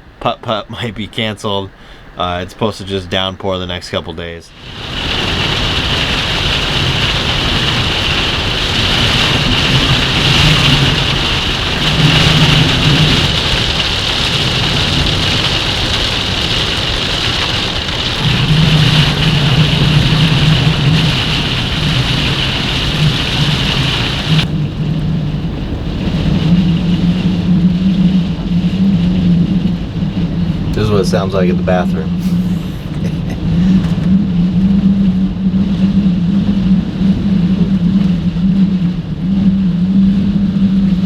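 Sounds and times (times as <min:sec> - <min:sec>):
strong wind buffeting a camper: 0:04.6 - 0:41.0.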